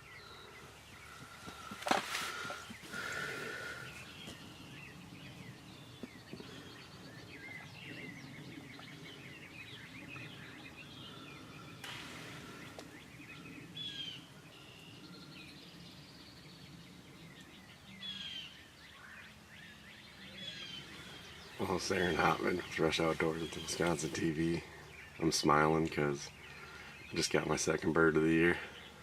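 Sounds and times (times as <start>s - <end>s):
low outdoor background hum: 0.0s - 29.0s
songbirds singing and chirping: 0.0s - 29.0s.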